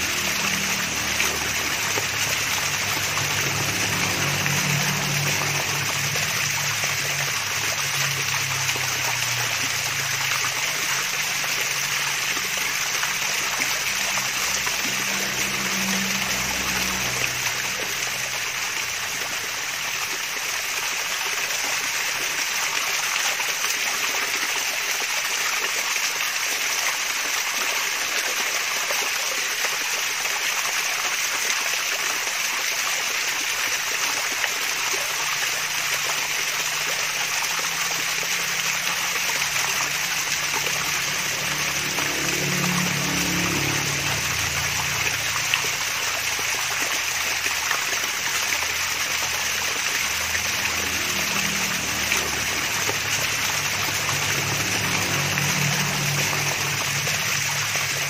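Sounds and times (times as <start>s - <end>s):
waterfall splashing and trickling: 0.0s - 58.0s.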